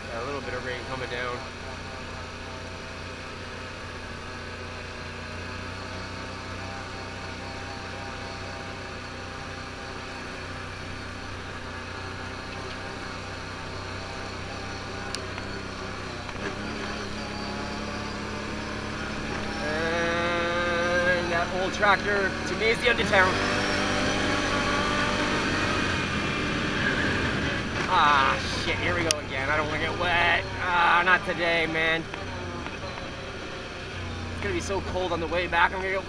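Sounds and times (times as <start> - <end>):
atv engine droning: 0.0 - 36.0.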